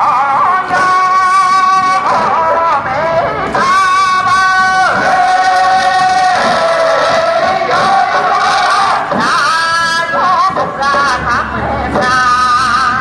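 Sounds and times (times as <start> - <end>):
singers performing folk song: 0.0 - 13.0.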